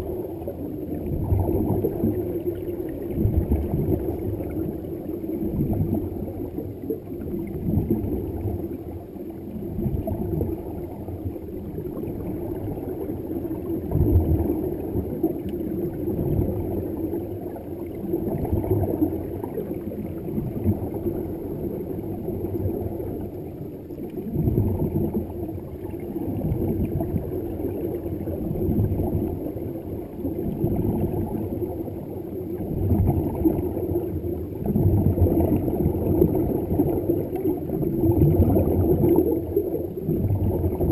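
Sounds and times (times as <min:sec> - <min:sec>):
underwater air bubbles gurgling: 0:00.0 - 0:40.9.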